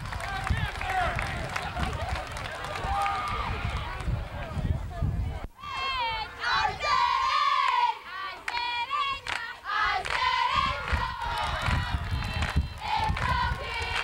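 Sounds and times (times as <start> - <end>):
crowd shouting and cheering: 0.0 - 14.0.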